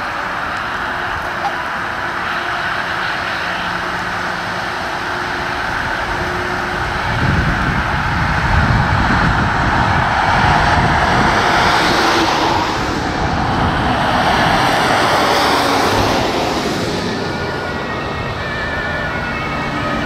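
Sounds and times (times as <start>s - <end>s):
vehicle driving by: 0.0s - 20.0s.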